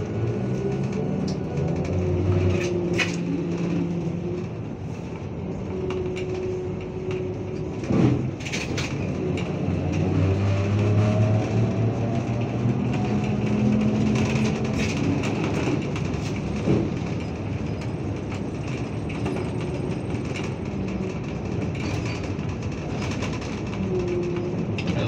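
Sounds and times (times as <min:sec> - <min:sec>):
bus body rattle: 0:00.0 - 0:25.0
road rumble: 0:00.0 - 0:25.0.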